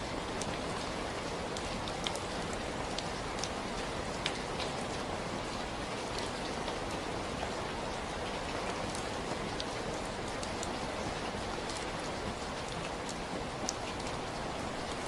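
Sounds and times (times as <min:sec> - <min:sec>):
raindrops pattering on a surface: 0:00.0 - 0:15.0
steady rain hiss: 0:00.0 - 0:15.0.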